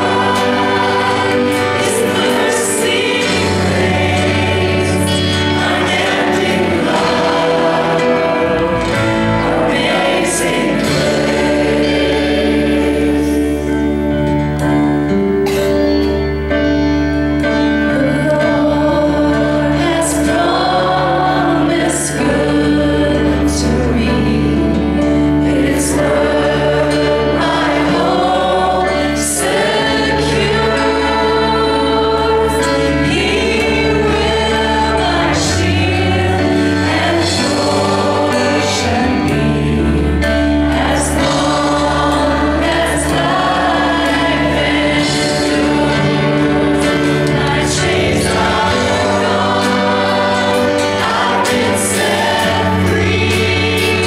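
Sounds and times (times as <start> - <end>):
bass guitar: 0.0 - 54.0
electric guitar: 0.0 - 54.0.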